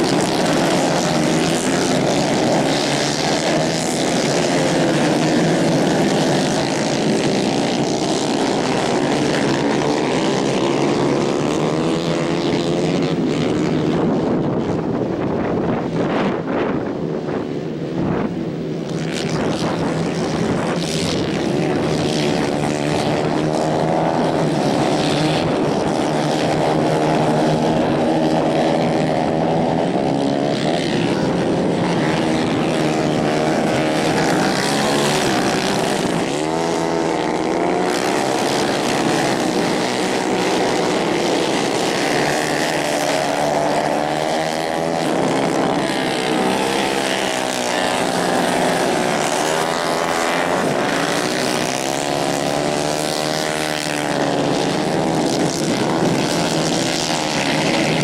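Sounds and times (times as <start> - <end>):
racing kart engines revving: 0.0 - 16.4, 17.8 - 58.0.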